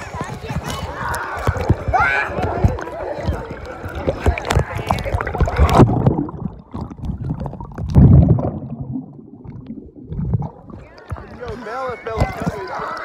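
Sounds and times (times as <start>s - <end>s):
underwater rumbling and gurgling: 0.0s - 11.6s.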